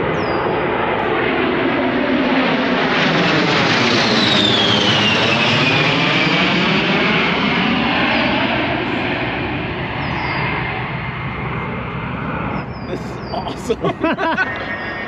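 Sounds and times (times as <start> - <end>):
high jet whine dropping in pitch: 0.0 - 15.0
jet aircraft engine roar: 0.0 - 15.0.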